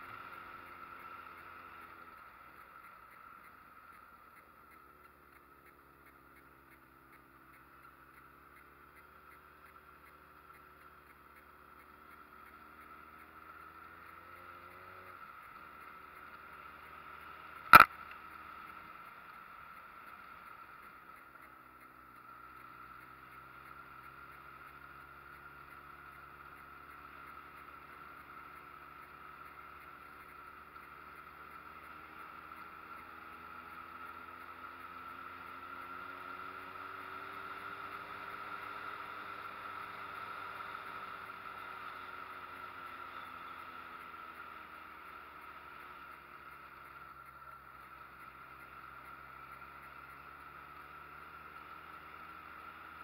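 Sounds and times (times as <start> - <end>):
high-pitched whine: 0.0 - 53.0
motorcycle engine running: 0.0 - 53.0.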